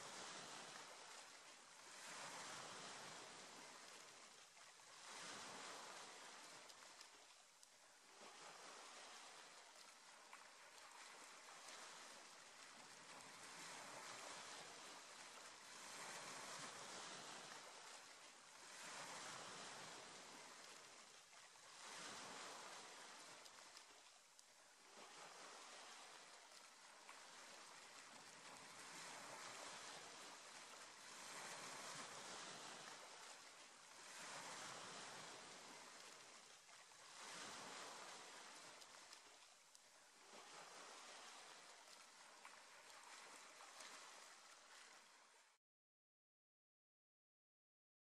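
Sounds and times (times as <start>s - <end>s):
small waves washing over stones: 0.0s - 45.5s.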